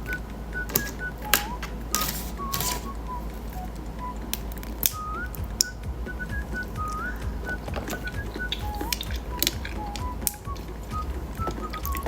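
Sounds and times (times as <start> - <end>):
faint music with whistled tune: 0.0 - 12.0.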